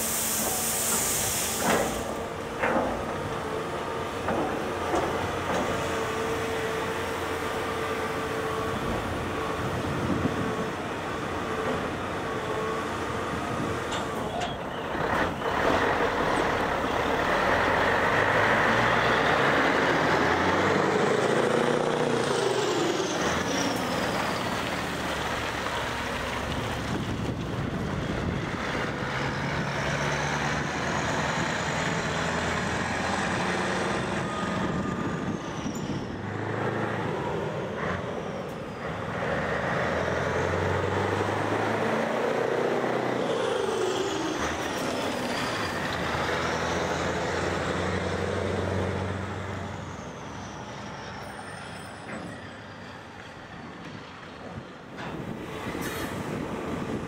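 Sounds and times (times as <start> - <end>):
diesel trucks driving: 0.0 - 57.0.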